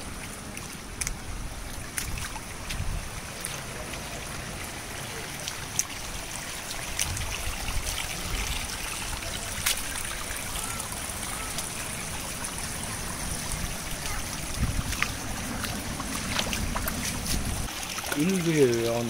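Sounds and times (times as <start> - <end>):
sea waves washing over sand: 0.0 - 19.0
sharp water splashes: 0.0 - 19.0.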